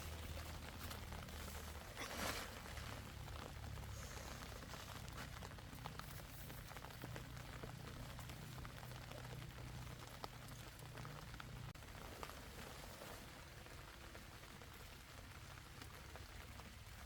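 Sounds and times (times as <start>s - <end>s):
low steady rumble: 0.0s - 17.0s
raindrops tapping: 0.0s - 17.0s
steady rain: 0.0s - 17.0s.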